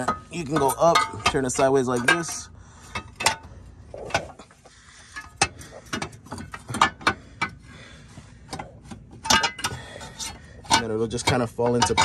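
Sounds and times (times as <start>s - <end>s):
metal bracket clanking: 0.0s - 7.6s, 8.5s - 12.0s.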